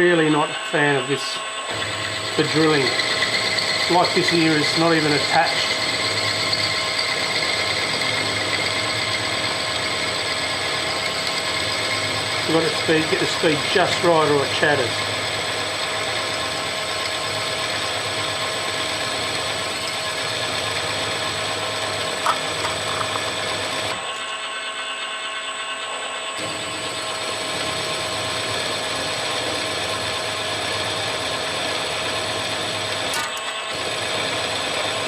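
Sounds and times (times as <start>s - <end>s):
milling machine drone and whine: 0.0s - 35.0s.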